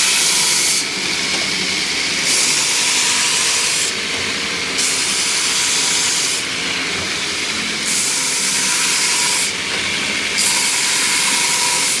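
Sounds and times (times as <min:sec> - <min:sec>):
belt grinder grinding metal: 0:02.2 - 0:12.0.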